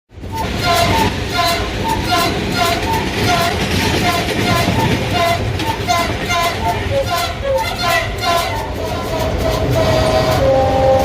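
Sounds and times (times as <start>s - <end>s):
train wheels rumbling on rails: 0.1s - 11.0s.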